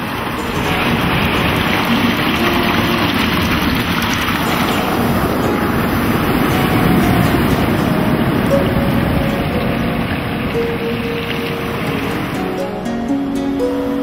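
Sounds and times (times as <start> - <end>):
surf breaking on beach: 0.0 - 14.0.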